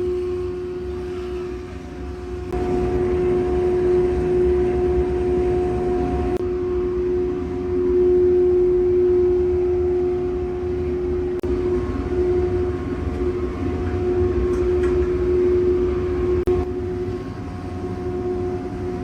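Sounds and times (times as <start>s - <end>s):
factory machine motor humming: 0.0s - 19.0s.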